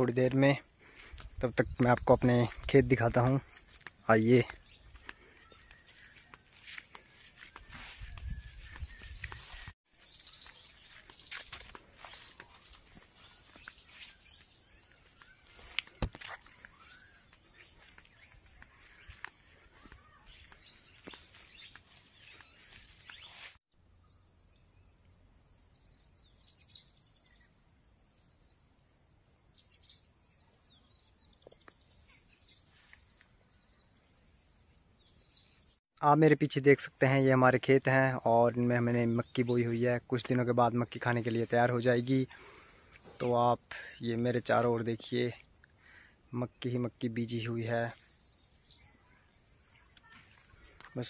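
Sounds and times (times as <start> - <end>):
insects buzzing: 0.0 - 35.7, 37.0 - 51.0
bird chirps: 1.6 - 27.8, 28.5 - 34.1, 40.4 - 51.0.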